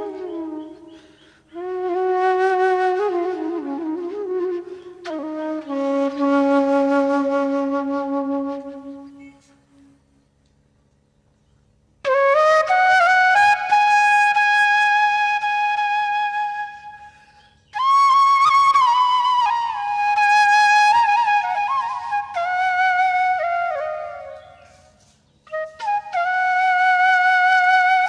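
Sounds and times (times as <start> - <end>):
solo flute melody: 0.0 - 10.0, 12.0 - 28.0.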